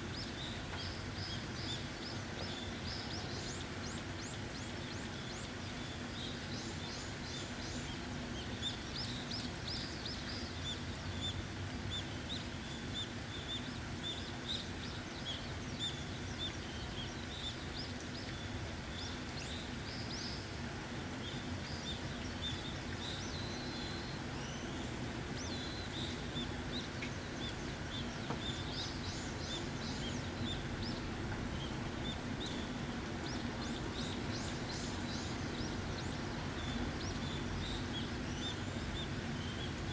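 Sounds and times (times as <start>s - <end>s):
steady rain: 0.0s - 39.9s
small birds chirping: 0.1s - 39.9s.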